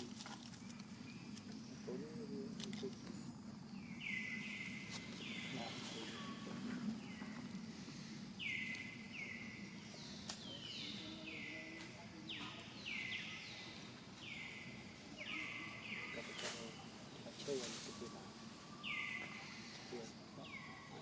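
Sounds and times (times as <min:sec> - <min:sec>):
bird calling: 0:00.0 - 0:21.0
steady background hiss: 0:00.0 - 0:21.0.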